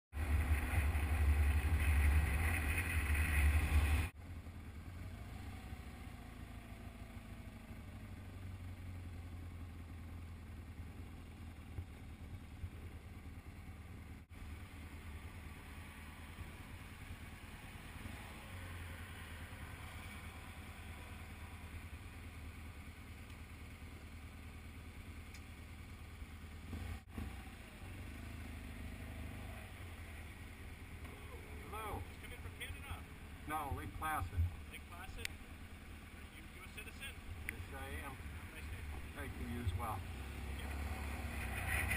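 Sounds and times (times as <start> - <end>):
motorcycle engine rumble: 0.1 - 41.9.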